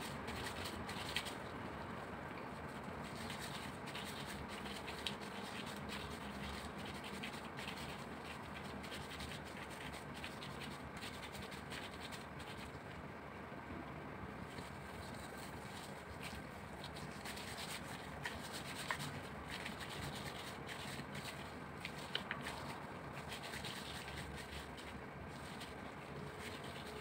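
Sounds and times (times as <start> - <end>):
plastic gloves rubbing mince: 0.0 - 12.8, 14.4 - 27.0.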